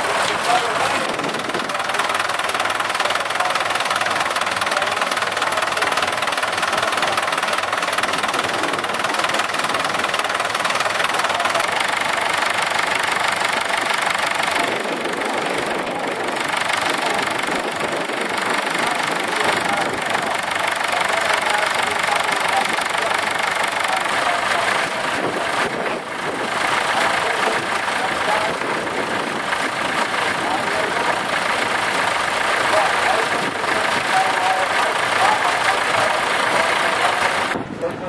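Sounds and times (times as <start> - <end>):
tractor diesel engine idling: 0.0 - 38.0.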